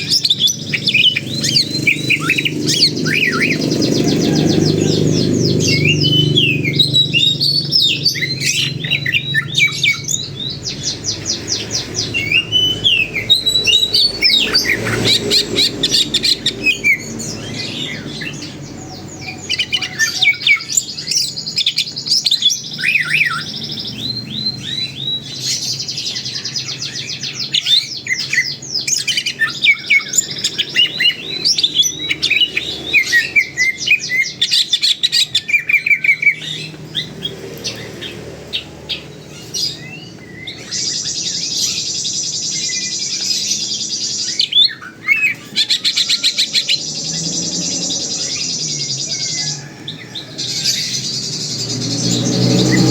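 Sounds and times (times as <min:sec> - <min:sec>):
bird singing chirps and whistles: 0:00.0 - 0:52.9.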